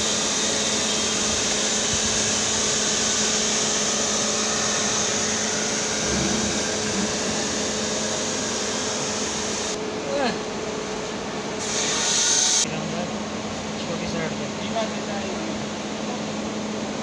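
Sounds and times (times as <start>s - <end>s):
whirring machine with hiss: 0.0s - 17.0s.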